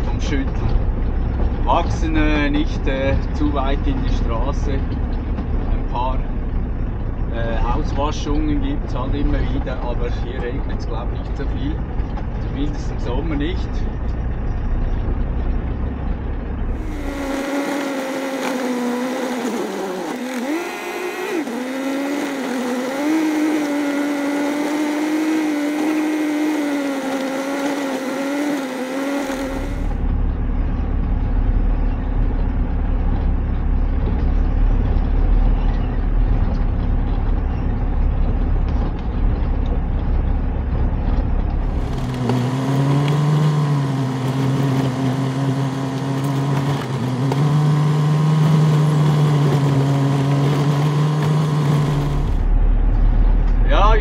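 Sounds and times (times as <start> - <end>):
diesel truck engine: 0.0 - 54.0
low rumble of tyres on gravel: 0.0 - 54.0.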